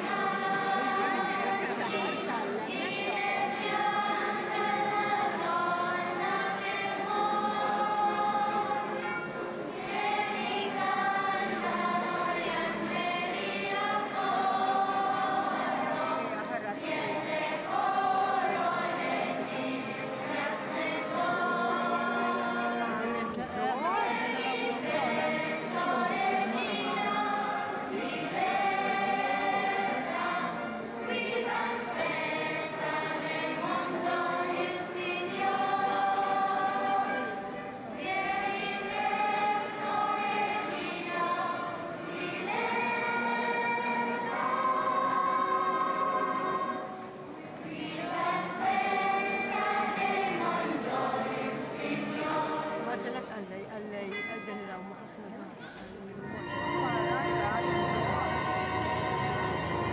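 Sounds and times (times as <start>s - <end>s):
female choir singing held notes: 0.0s - 53.3s, 57.6s - 59.9s.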